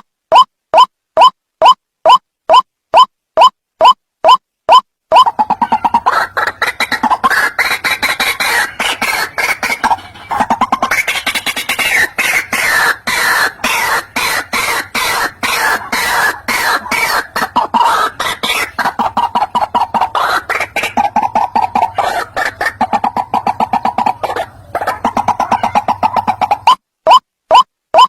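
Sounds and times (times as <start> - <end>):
waterhen calling: 5.1 - 28.0.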